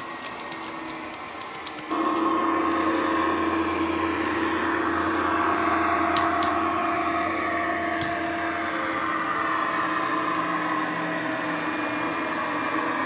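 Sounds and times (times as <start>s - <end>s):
diesel engine drone from speaker: 1.9s - 13.0s.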